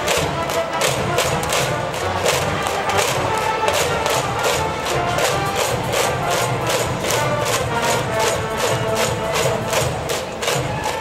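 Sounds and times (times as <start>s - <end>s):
brass band playing: 0.0s - 11.0s
steady drum beat: 0.0s - 11.0s.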